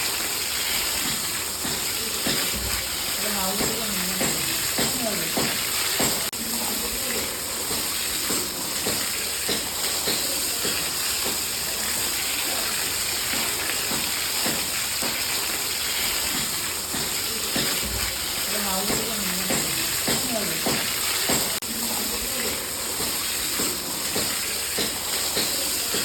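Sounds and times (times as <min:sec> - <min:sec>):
water spraying and splashing: 0:00.0 - 0:26.0.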